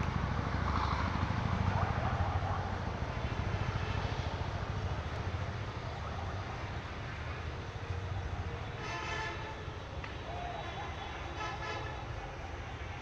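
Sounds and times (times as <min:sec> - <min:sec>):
passing vehicles rumbling: 0:00.0 - 0:13.0.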